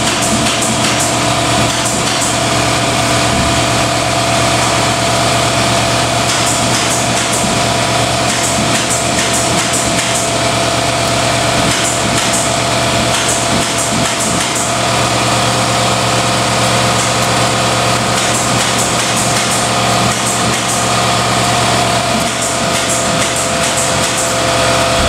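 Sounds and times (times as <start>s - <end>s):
steady mechanical drone: 0.0s - 25.0s.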